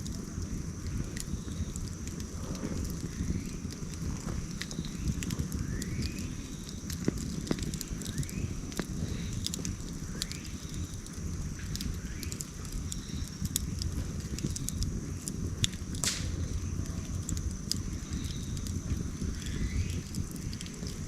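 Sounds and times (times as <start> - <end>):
campfire crackling and popping: 0.0 - 21.0
steady low rumble: 0.0 - 21.0.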